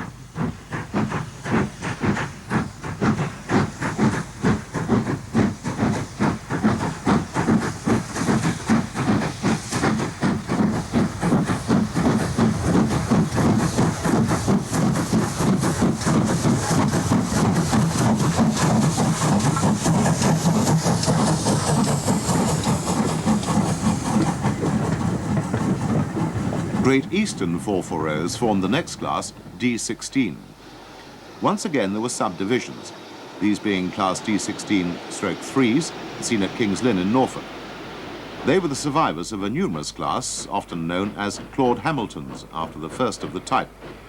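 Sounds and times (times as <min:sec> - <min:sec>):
steam locomotive chuffing: 0:00.0 - 0:44.0.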